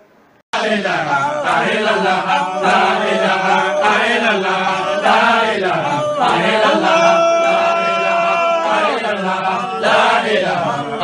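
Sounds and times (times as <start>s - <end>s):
men chanting: 0.6s - 11.0s.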